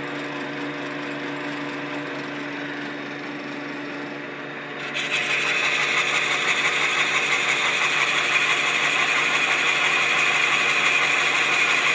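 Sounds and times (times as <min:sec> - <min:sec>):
metal lathe running: 0:00.0 - 0:11.9.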